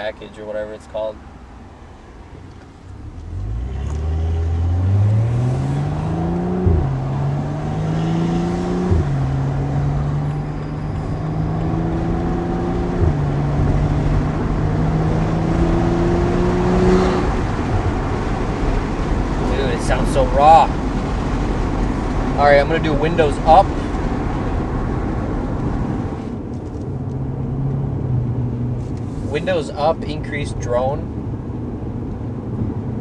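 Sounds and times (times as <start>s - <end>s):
car engine accelerating: 2.2s - 33.0s.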